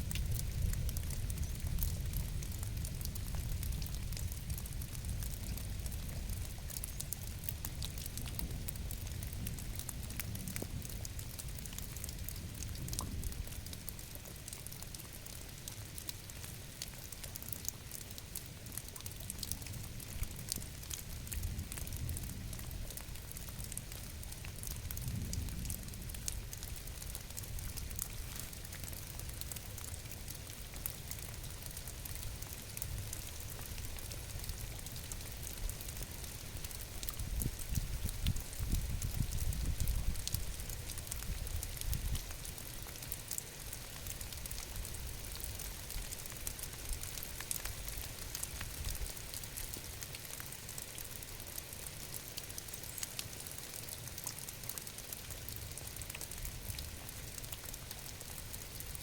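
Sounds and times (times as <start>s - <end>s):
low rain rumble: 0.0s - 59.0s
raindrops ticking on surfaces: 0.0s - 59.0s.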